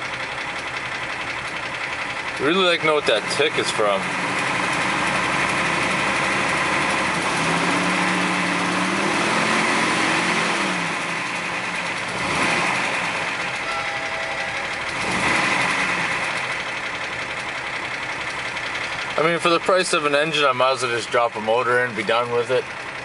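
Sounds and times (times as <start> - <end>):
engine knock: 0.0 - 9.6, 10.5 - 23.0
car engine idling: 0.0 - 23.0.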